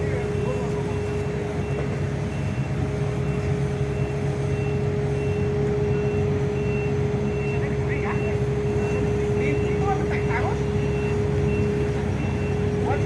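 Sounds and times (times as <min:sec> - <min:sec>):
back-up alarm beeping: 0:00.0 - 0:13.0
diesel machinery rumbling: 0:00.0 - 0:13.0
engine whine: 0:00.0 - 0:13.0.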